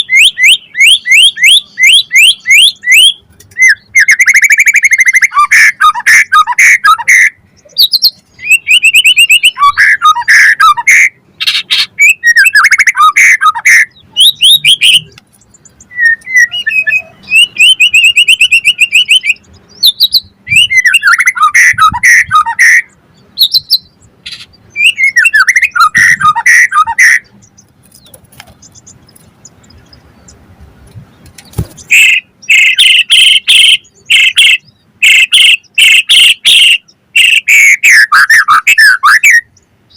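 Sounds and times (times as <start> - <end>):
songbird singing whistles and trills: 0.0 - 30.4, 31.4 - 39.9.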